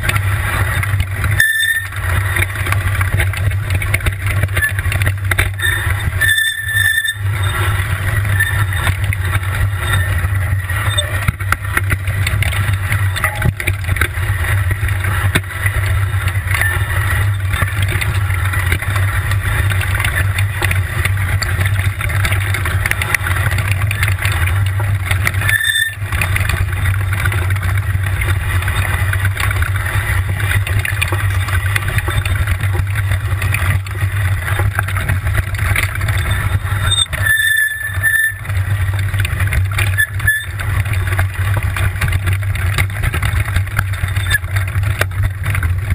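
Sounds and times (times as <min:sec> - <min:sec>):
tricycle rumbling on muddy track: 0:00.0 - 0:45.9.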